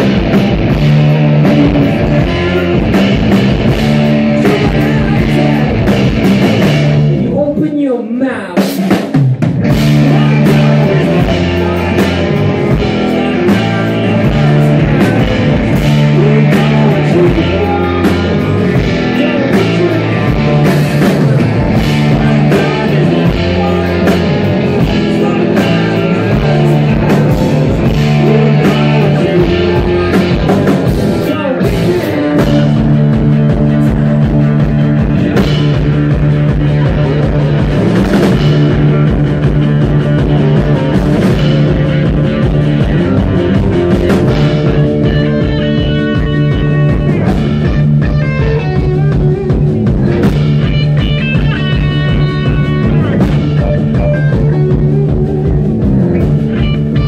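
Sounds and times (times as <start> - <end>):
drum and cymbal hits: 0.0 - 7.2, 8.6 - 57.0
electric guitar: 0.0 - 7.6, 8.8 - 57.0
bass guitar: 0.0 - 57.0.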